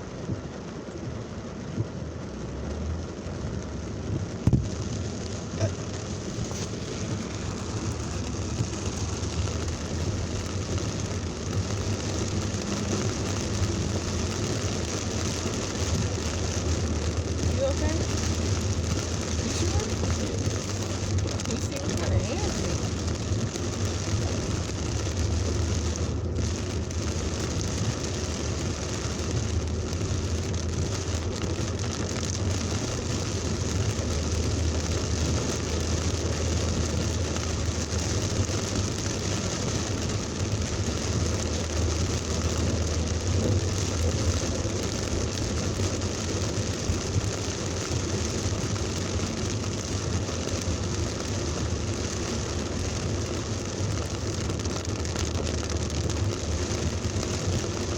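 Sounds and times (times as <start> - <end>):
heavy rain falling: 0.0 - 57.9
low rumble: 0.0 - 57.9.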